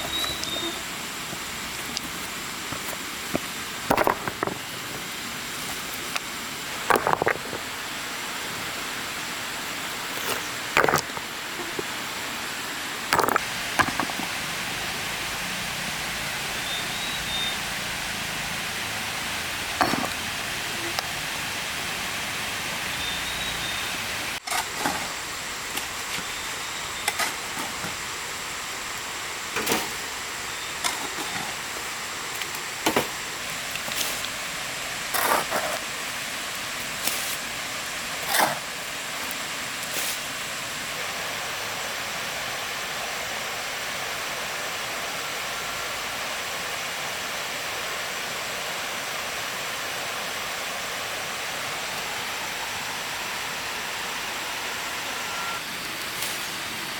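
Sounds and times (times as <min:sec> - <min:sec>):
flowing water rushing: 0:00.0 - 0:56.9.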